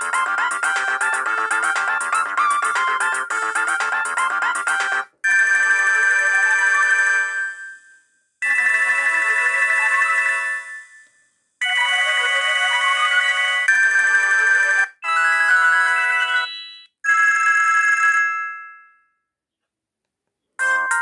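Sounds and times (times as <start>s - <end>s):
phone ringtone melodies: 0.0s - 19.2s, 20.6s - 21.0s.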